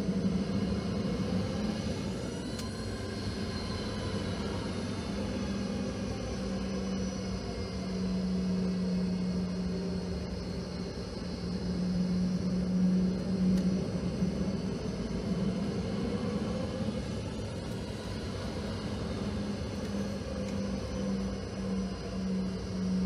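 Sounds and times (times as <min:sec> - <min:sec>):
jet engines humming in cabin: 0:00.0 - 0:23.0.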